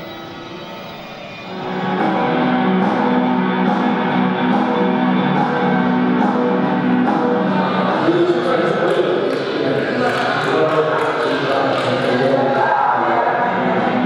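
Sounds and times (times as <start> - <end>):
guitar-led band music: 0.0 - 14.0.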